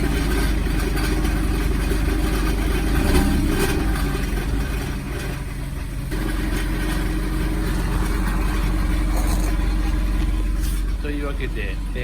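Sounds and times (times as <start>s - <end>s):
abnormal engine noise: 0.0s - 12.0s
car engine running: 0.0s - 12.0s.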